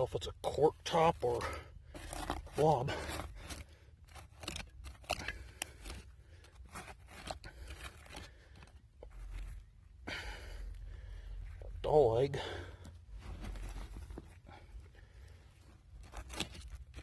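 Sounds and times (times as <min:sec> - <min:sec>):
digging scrapes and crunches in dirt: 0:00.0 - 0:17.0.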